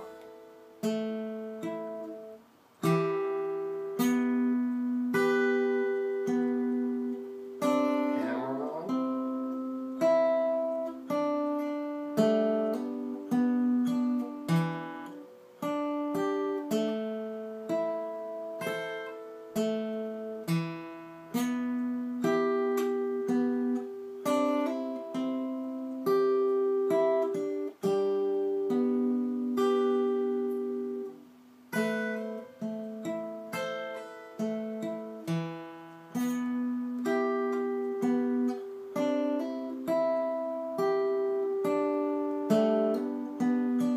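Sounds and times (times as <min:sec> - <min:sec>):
acoustic guitar picked slowly: 0:00.0 - 0:43.9.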